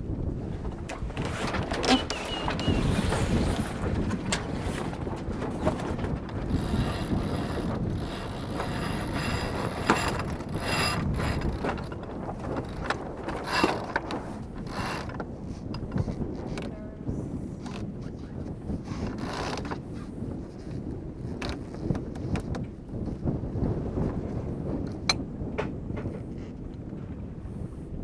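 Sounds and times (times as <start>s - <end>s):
wind noise: 0.0s - 28.0s.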